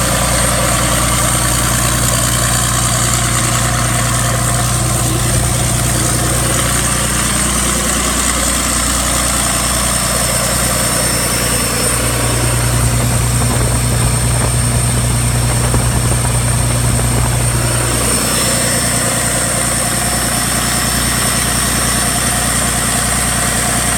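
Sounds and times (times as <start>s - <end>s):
diesel generator humming: 0.0s - 23.9s.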